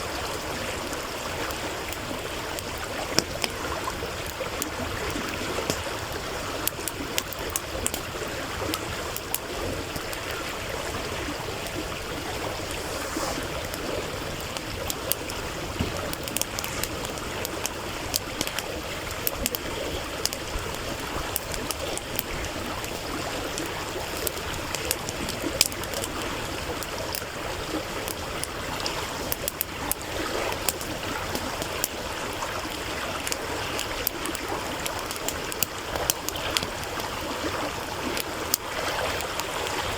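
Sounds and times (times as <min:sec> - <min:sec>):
campfire crackling and popping: 0:00.0 - 0:39.9
stream running: 0:00.0 - 0:39.9.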